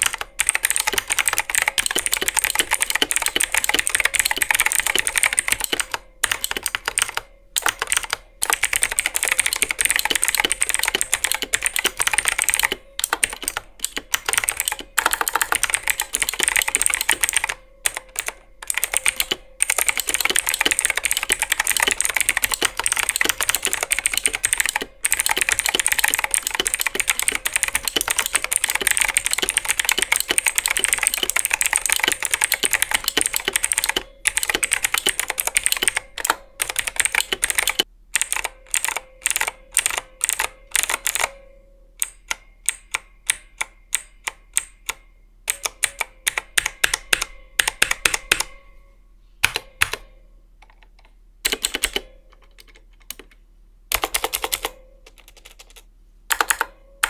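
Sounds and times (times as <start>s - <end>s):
mechanical keyboard typing: 0.0s - 41.4s, 42.0s - 48.6s, 49.4s - 56.8s.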